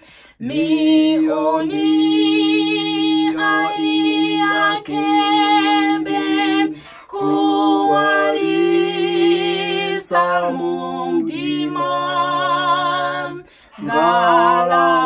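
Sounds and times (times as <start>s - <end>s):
woman singing slow song: 0.3s - 15.0s.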